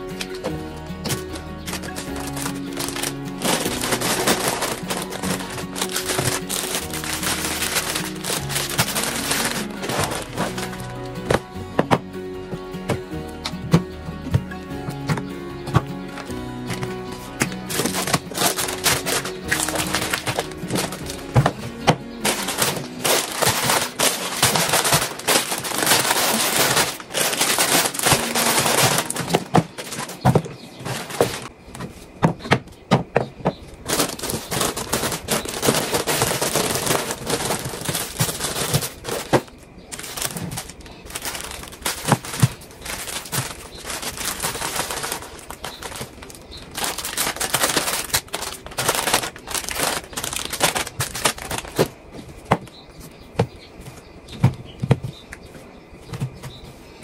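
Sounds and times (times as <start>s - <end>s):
groceries and boxes clattering: 0.0s - 57.0s.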